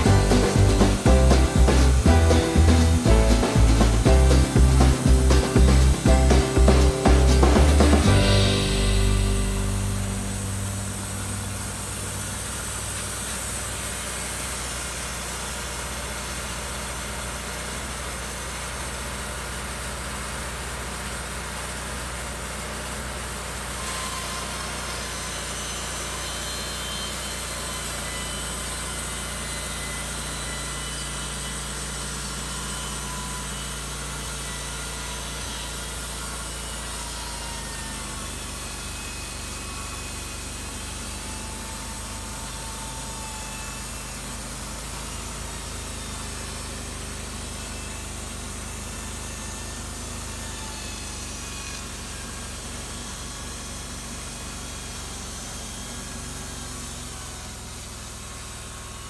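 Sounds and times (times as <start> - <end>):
band saw blade cutting wood: 0.0 - 17.5, 23.3 - 57.4
sawmill engine running: 0.0 - 59.0.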